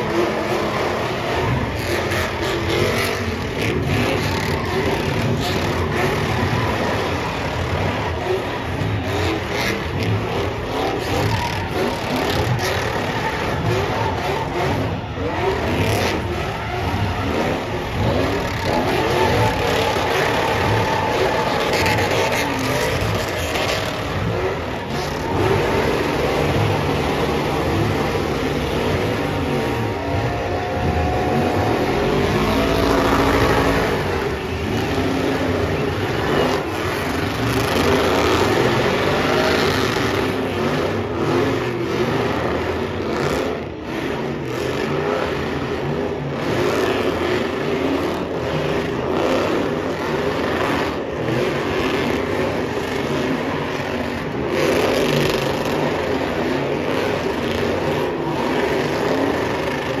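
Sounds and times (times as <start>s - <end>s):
truck engines revving: 0.0s - 60.0s.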